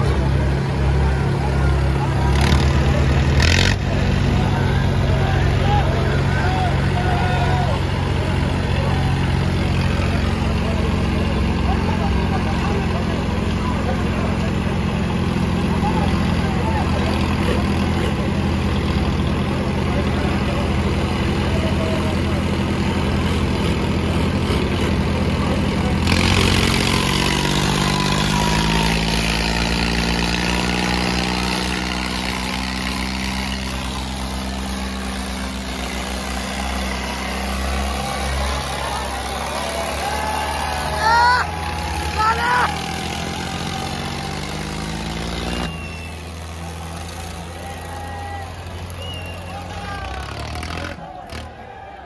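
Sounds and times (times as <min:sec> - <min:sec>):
diesel tractor engines straining: 0:00.0 - 0:52.0.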